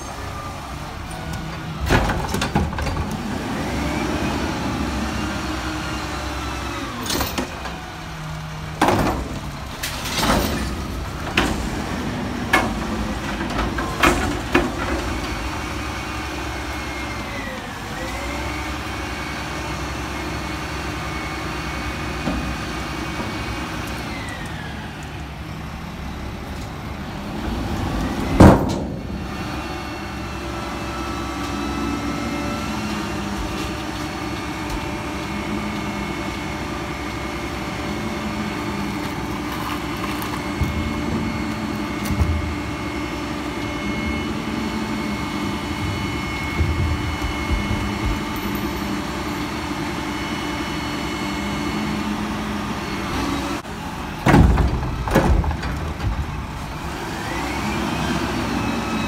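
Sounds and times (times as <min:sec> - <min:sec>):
diesel engine running: 0:00.0 - 0:59.0
hydraulics whining: 0:00.0 - 0:59.0.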